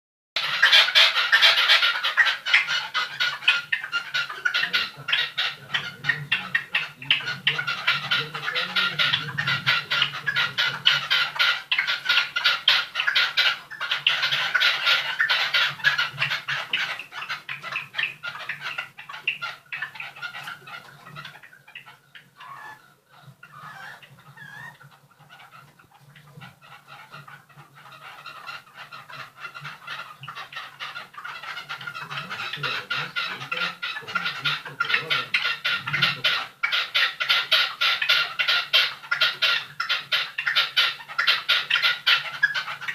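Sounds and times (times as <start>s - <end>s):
caged birds chirping: 0.4s - 42.9s.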